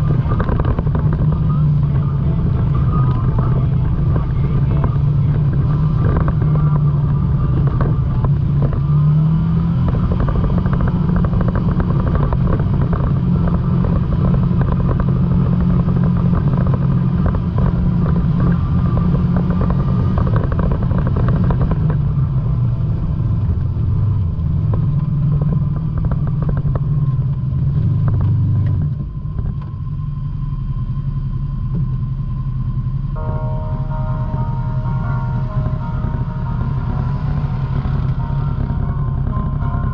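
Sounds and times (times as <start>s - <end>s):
atv engine droning: 0.0s - 39.9s.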